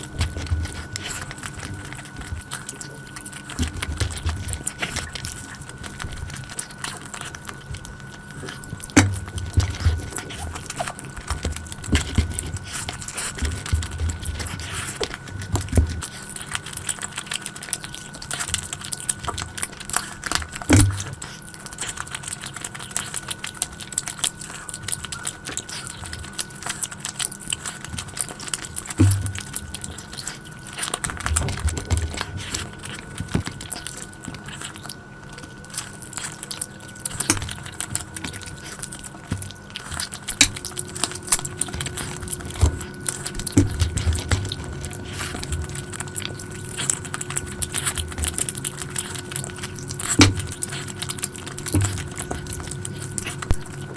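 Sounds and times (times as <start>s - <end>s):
chewing and biting: 0.0s - 53.9s.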